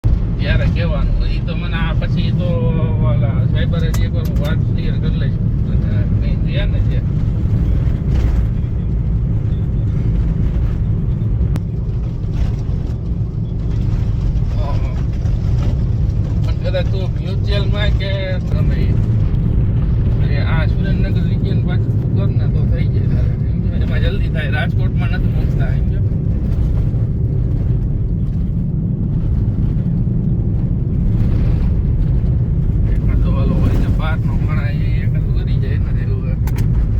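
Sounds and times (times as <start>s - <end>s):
road vehicle rumble: 0.0s - 36.9s.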